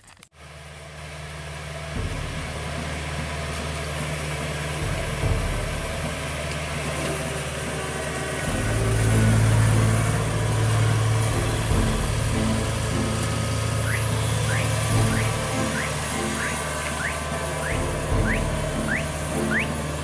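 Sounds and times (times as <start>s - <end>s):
combine harvester engine running: 0.4s - 20.0s.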